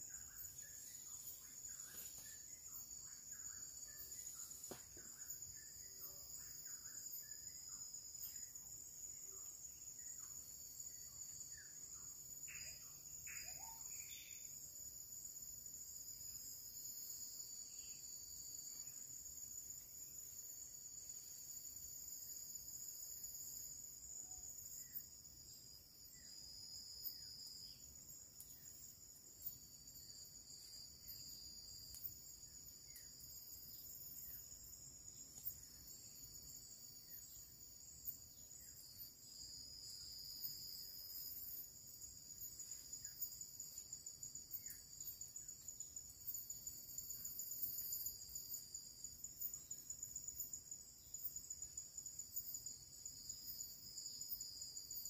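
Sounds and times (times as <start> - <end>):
forest insects chorus: 0.0 - 55.0.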